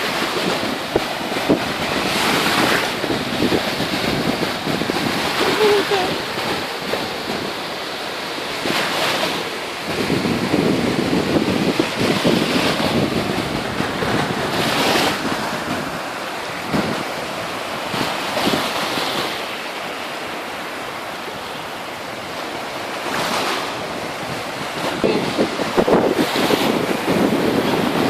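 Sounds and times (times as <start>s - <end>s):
wind buffeting microphone: 0.0s - 19.3s, 21.0s - 28.0s
sea waves breaking: 0.0s - 28.0s.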